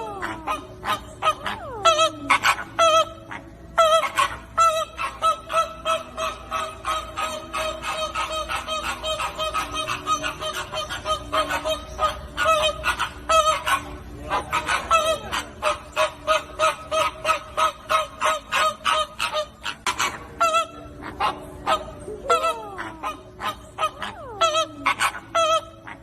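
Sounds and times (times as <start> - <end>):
flamingos honking: 0.0 - 26.0.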